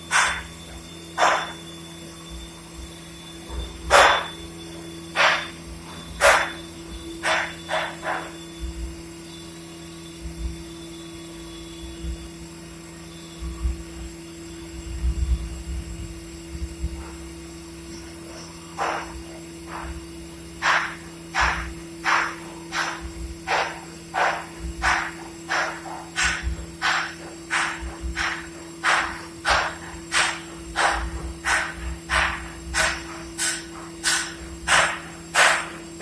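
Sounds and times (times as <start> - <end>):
machine humming: 0.0 - 36.0.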